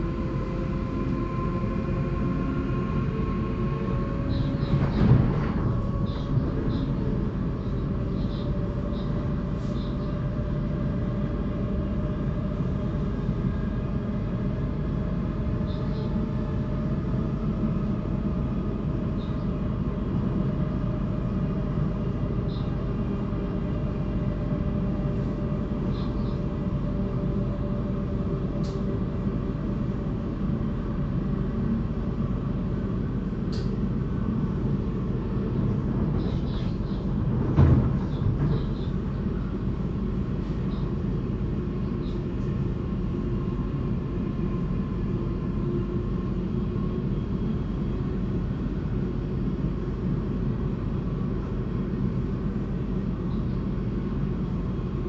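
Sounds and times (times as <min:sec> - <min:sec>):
faint steady hum: 0:00.0 - 0:55.0
train low rumble: 0:00.0 - 0:55.0.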